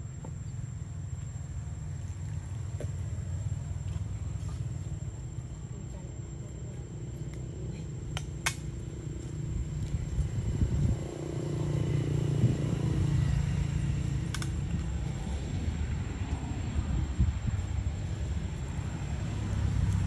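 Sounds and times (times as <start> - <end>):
distant motor vehicle rumble: 0.0 - 20.0.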